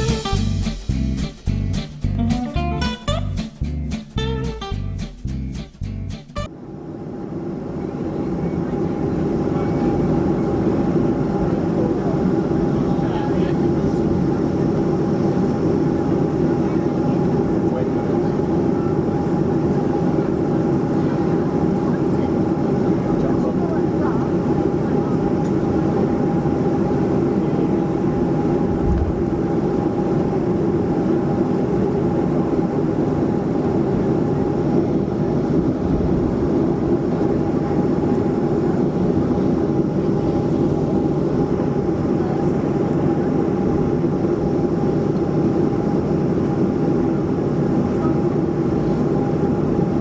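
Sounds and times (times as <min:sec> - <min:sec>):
airplane cabin engine and airflow rush: 0:06.4 - 0:50.0.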